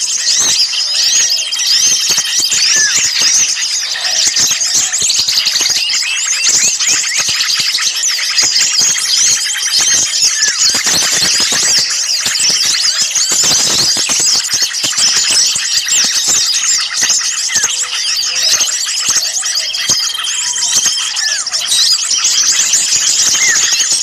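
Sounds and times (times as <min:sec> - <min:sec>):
many small birds chirping: 0:00.0 - 0:24.0.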